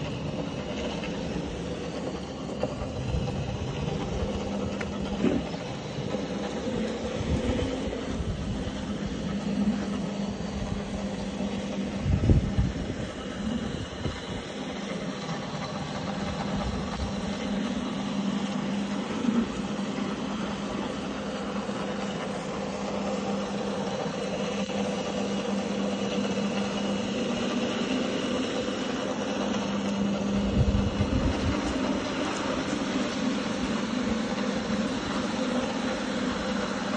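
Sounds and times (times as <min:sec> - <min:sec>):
brush scrubbing wet rug: 0:00.0 - 0:36.9
floor machine motor hum: 0:00.0 - 0:36.9.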